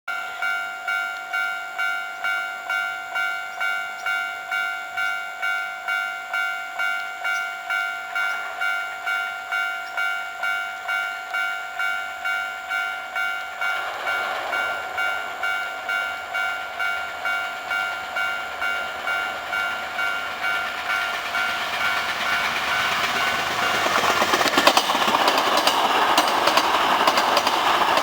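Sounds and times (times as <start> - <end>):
level-crossing warning bell: 0.1 - 28.0
train running noise: 0.1 - 28.0.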